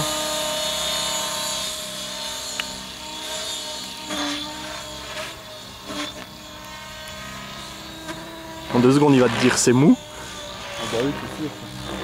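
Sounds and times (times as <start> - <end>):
model helicopter rotor hum: 0.0 - 12.0.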